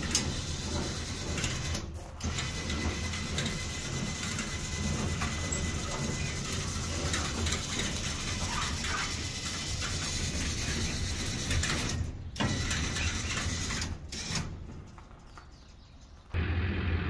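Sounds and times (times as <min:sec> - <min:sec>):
cable hoist humming: 0:00.0 - 0:15.1
cable and pulleys clicking: 0:00.0 - 0:15.7.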